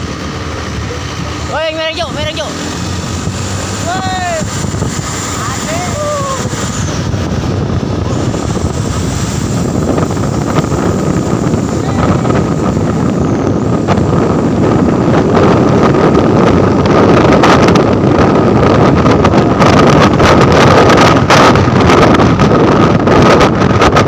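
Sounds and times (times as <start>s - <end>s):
truck engine running hard: 0.0s - 24.0s
wind buffeting microphone: 0.0s - 24.0s.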